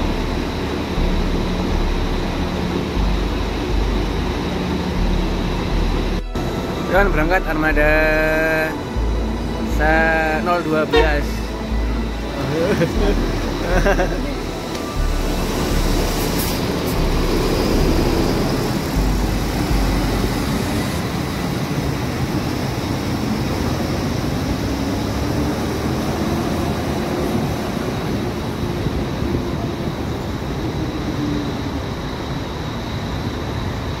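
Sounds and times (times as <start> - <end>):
bus diesel engine driving off: 0.0 - 34.0.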